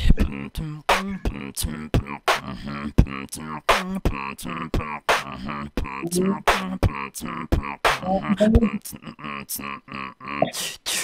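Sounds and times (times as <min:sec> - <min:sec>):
person beatboxing: 0:00.0 - 0:11.0.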